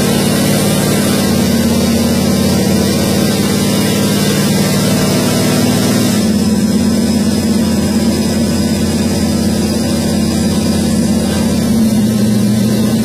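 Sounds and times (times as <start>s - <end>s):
loud car engine at steady revs: 0.0s - 13.0s.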